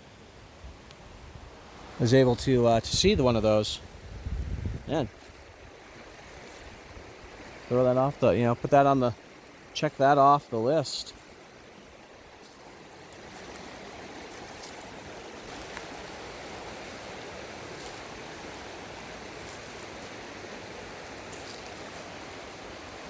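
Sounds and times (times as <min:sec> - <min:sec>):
water rushing: 0:01.5 - 0:23.0.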